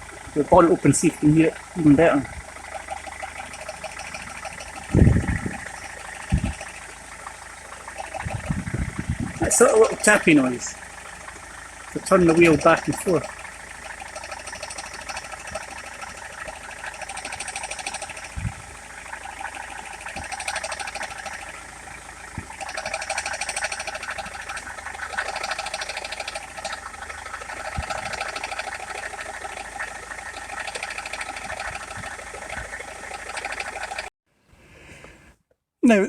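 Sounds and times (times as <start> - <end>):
car engine idling: 0.0 - 34.1
fast light engine tapping: 0.0 - 34.1.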